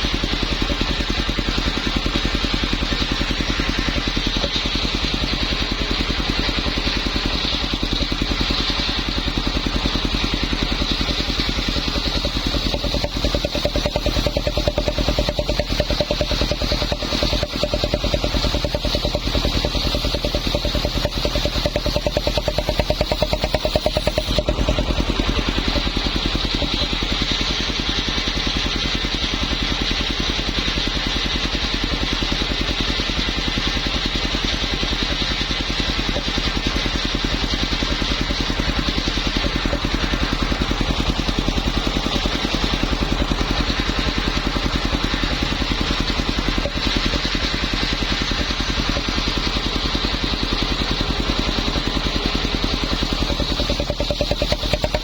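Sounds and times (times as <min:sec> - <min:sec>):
circular saw running: 0:00.0 - 0:55.0.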